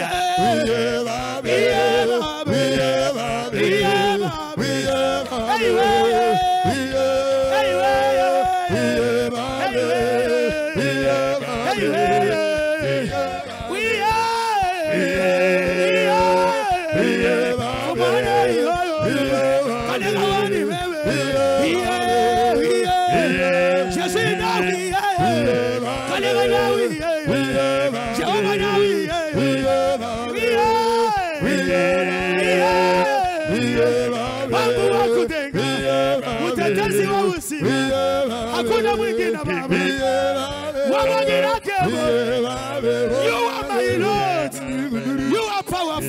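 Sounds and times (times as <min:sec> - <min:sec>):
men singing into microphones: 0:00.0 - 0:46.0.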